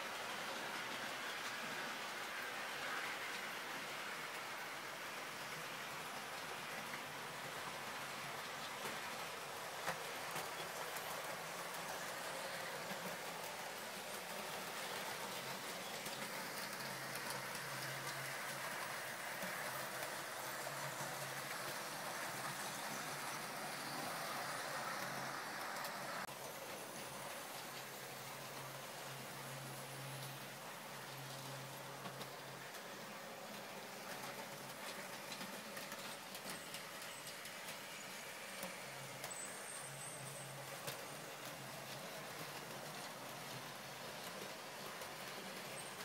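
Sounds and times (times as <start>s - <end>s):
model train running: 0.0s - 46.0s
steady hiss: 0.0s - 46.0s
wheels clicking on rails: 0.0s - 46.0s.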